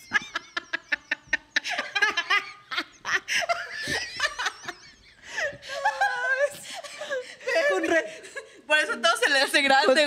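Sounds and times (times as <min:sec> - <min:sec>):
women laughing hard: 0:00.0 - 0:08.4.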